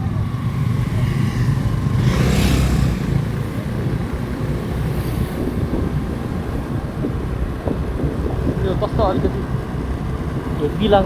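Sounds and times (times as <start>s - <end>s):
motorcycle engine rumble: 0.0s - 11.0s
wind noise: 0.0s - 11.0s.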